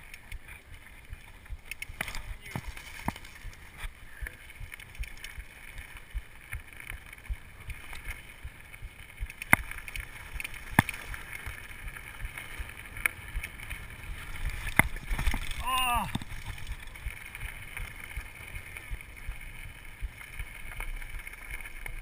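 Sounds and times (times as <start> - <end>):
bike rumbling and rattling on trail: 0.0 - 22.0.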